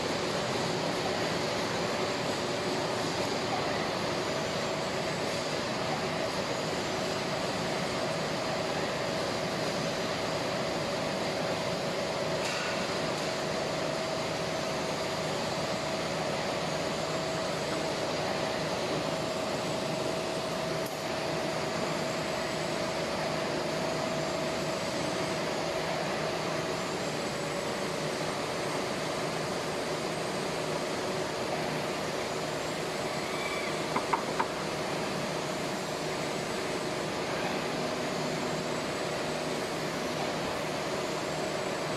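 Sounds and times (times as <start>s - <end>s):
machinery hum: 0.0s - 41.9s.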